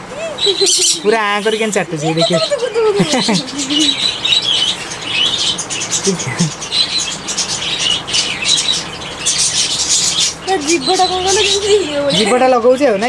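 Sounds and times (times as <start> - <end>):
parrots chirping and chattering: 0.0 - 13.0.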